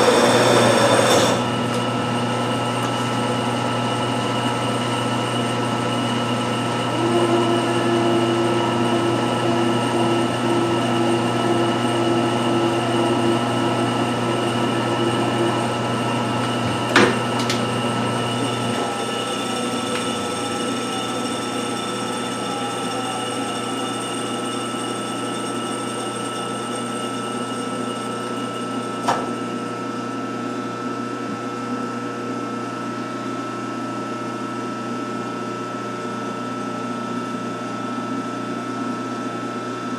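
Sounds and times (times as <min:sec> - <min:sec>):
lathe machine hum: 0:00.0 - 0:38.8.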